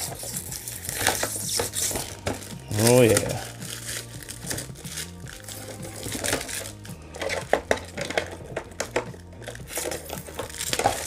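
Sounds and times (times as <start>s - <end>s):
background music with bass line: 0.0s - 11.0s
plastic clicks: 0.0s - 11.0s
plastic film crinkling: 0.0s - 11.0s.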